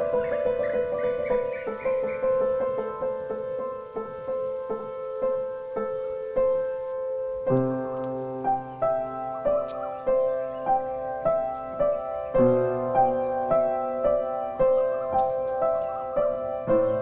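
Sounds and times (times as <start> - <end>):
soft melody: 0.0 - 17.0.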